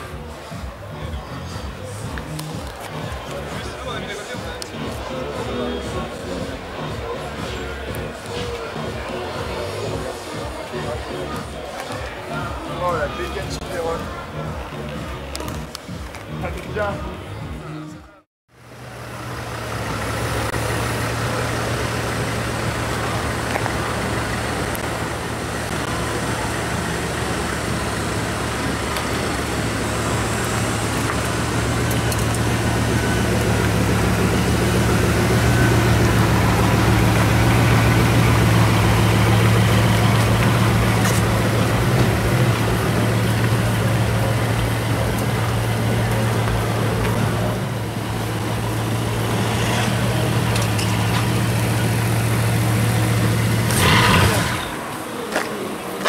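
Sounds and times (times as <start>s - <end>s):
car engine idling: 0.0s - 17.9s, 18.5s - 56.0s.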